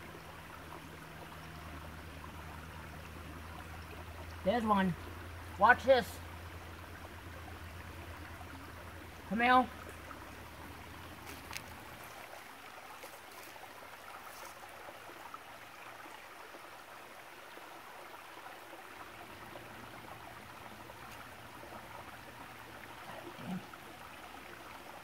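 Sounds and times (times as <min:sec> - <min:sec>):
creek running over rocks: 0:00.0 - 0:25.0.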